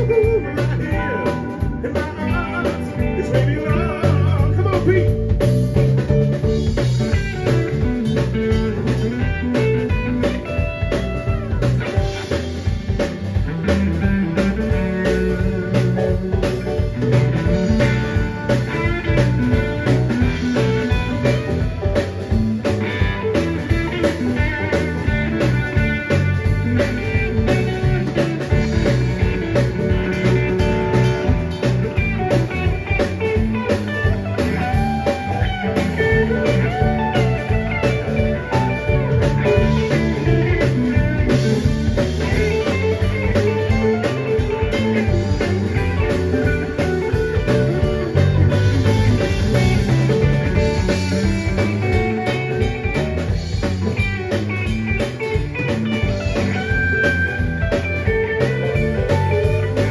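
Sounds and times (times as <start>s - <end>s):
drum kit beat: 0.0s - 59.9s
electric bass: 0.0s - 59.9s
electric guitar: 0.0s - 59.9s.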